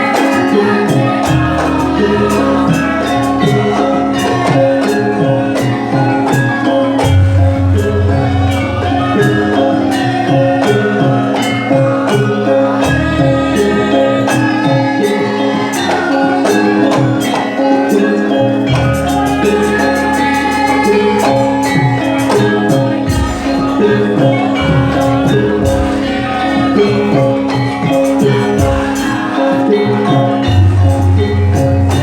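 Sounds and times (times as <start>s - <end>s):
pitched metal notes ringing: 0.0s - 32.0s
sharp percussion strokes: 0.0s - 32.0s.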